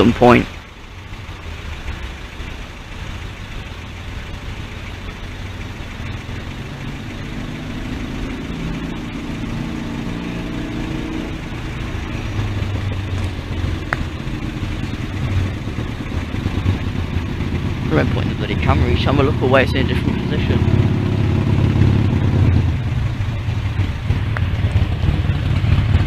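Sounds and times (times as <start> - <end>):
traffic rumble: 0.0 - 26.0
vehicles passing: 0.0 - 26.0.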